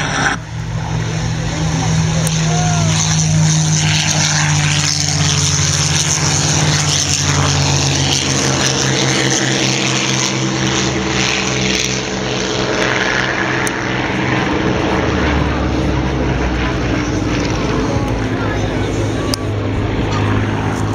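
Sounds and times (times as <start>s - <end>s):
propeller aircraft engines: 0.0s - 20.9s.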